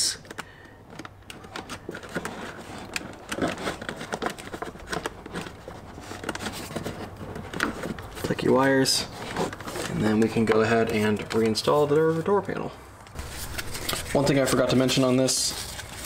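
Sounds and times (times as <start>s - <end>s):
hands handling wiring and plastic: 0.0s - 16.0s.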